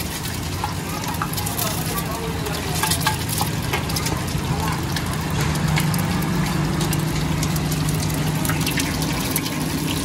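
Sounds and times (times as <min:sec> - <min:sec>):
oil sizzling and crackling: 0:00.0 - 0:10.0.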